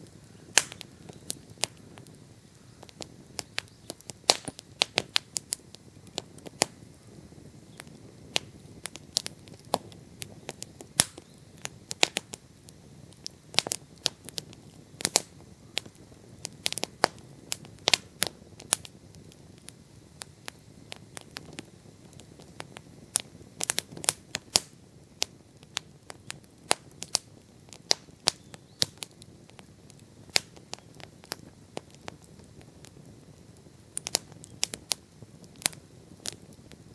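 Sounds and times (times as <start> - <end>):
bonfire crackling and popping: 0.0 - 36.9
low rush of flames: 0.0 - 36.9.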